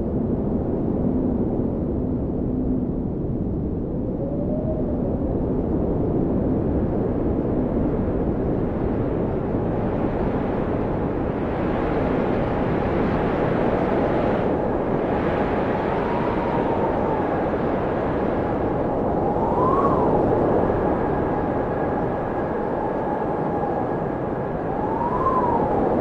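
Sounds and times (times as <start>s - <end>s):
blizzard wind rushing: 0.0s - 26.0s
howling wind whistle: 0.0s - 26.0s.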